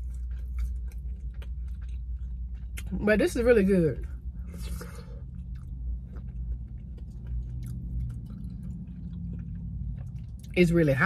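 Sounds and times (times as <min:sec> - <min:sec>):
chewing soup and bread: 0:00.0 - 0:11.0
steady low hum: 0:00.0 - 0:11.0.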